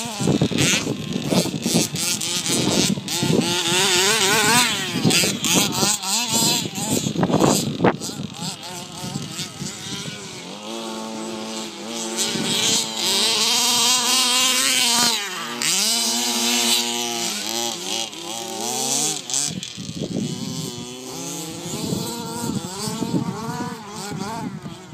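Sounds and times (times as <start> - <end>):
small two-stroke engine revving: 0.0 - 24.9.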